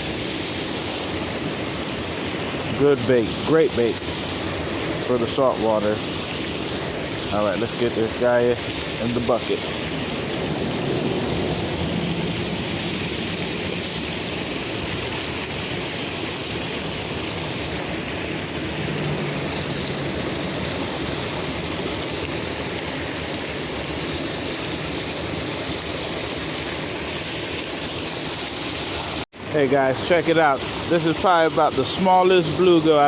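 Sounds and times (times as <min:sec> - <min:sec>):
water rushing over a dam: 0:00.0 - 0:33.0.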